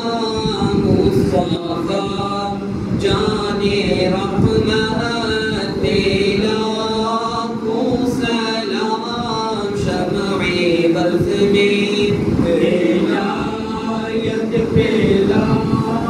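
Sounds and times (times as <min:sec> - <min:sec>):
men chanting a devotional song: 0:00.0 - 0:16.0.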